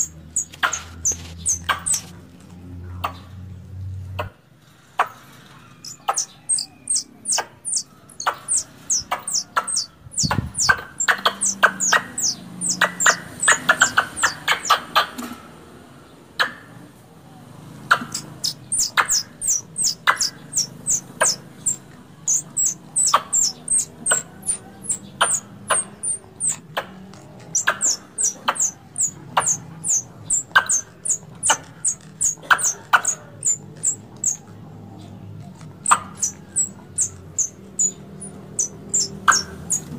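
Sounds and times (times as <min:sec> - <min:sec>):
squirrel call chirps: 0:00.0 - 0:02.1, 0:05.7 - 0:15.2, 0:17.9 - 0:34.5, 0:35.6 - 0:39.9.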